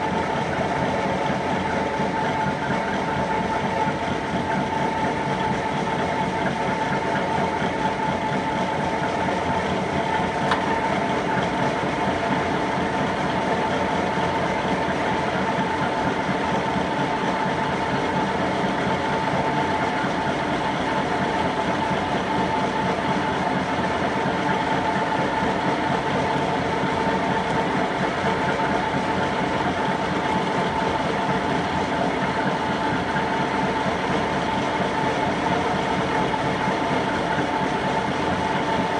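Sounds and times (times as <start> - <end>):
machine running with high whine: 0.0 - 38.9.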